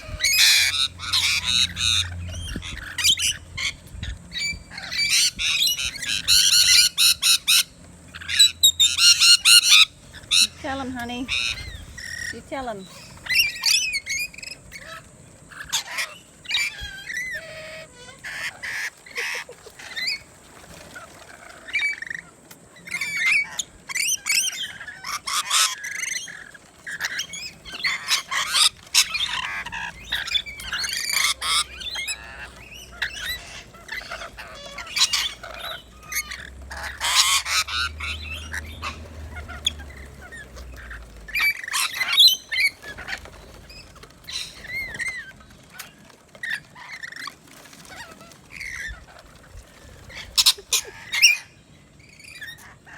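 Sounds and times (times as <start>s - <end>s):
lorikeets squawking and chattering: 0.0s - 52.9s.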